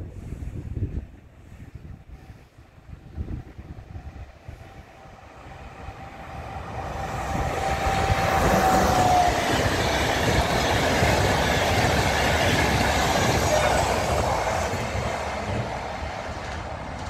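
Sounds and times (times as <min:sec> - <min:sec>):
rush of passing train coaches: 0:00.0 - 0:17.0
locomotive whine: 0:02.9 - 0:17.0.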